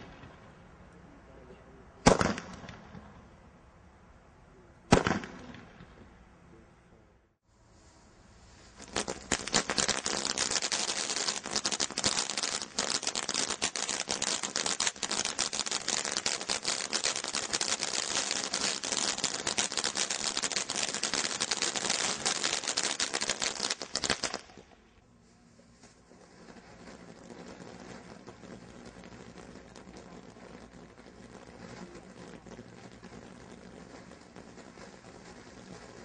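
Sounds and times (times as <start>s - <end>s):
firework fountain crackling and hissing: 0.0s - 0.8s, 2.1s - 3.1s, 7.6s - 36.0s.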